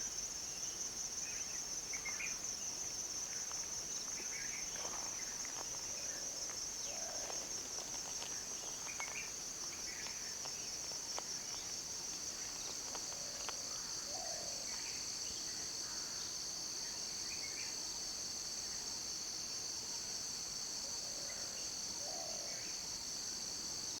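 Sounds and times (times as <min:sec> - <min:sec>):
high-pitched insect chorus: 0:00.0 - 0:23.8.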